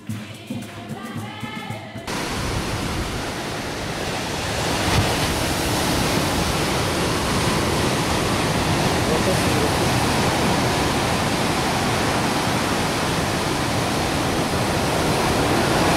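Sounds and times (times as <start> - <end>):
ocean surf breaking on beach: 2.1 - 15.9.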